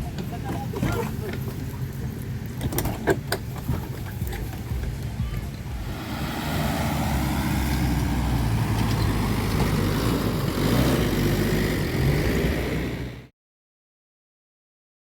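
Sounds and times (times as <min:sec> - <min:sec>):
truck engine running: 0:00.0 - 0:13.3.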